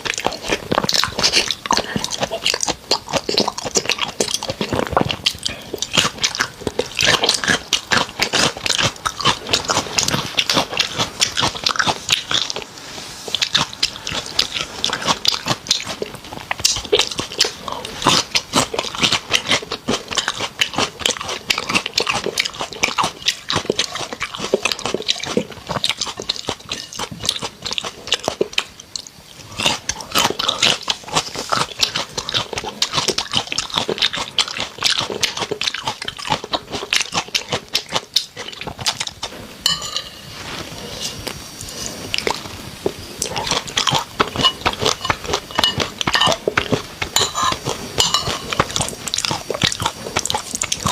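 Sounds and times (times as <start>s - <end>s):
wet chewing and crunching: 0.0s - 50.9s.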